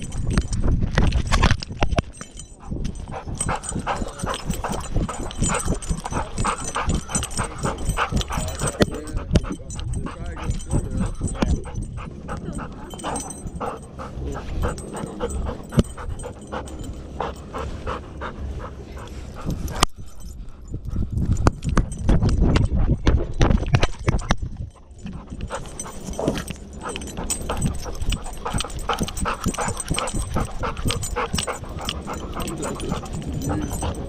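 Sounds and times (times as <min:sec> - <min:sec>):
thumps and rubbing: 0:00.0 - 0:20.4, 0:21.0 - 0:34.0
dog panting: 0:02.2 - 0:34.0.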